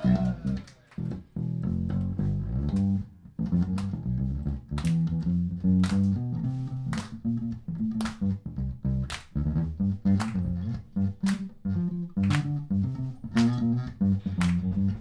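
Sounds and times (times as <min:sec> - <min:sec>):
electric bass guitar line: 0:00.0 - 0:15.0.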